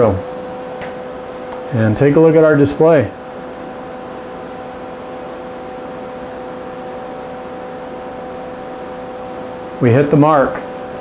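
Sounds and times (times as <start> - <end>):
mid-pitched whine: 0.0 - 11.0
shop machinery humming: 0.0 - 11.0.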